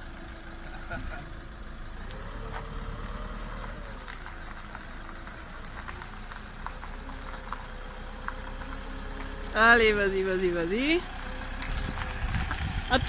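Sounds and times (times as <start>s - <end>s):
motorhome engine running at low revs: 0.0s - 13.0s.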